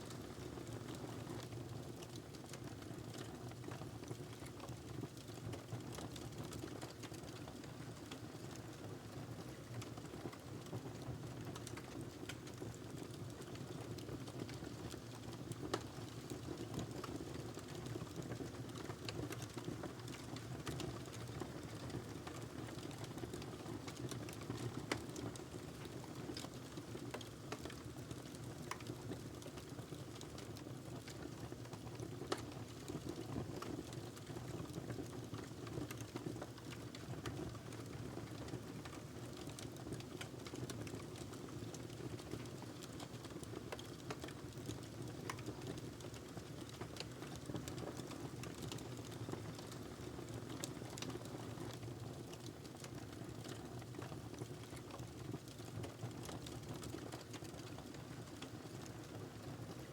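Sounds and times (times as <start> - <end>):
fire crackles and pops: 9.7 - 59.9.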